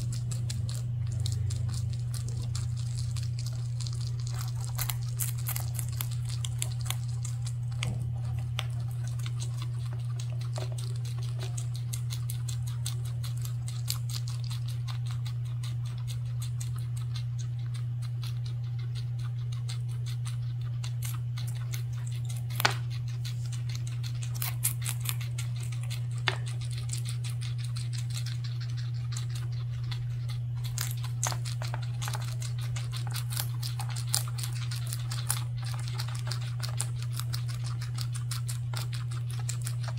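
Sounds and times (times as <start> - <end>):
guinea pigs chewing stems: 0.0 - 39.9
steady low hum: 0.0 - 39.9.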